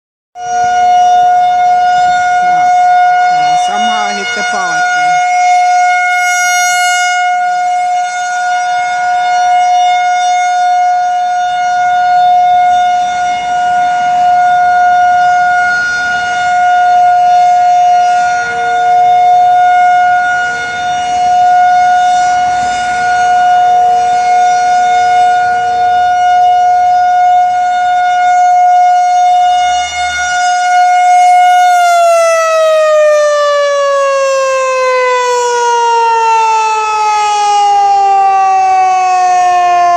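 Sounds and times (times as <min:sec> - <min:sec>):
warning siren wailing: 0:00.4 - 0:39.9.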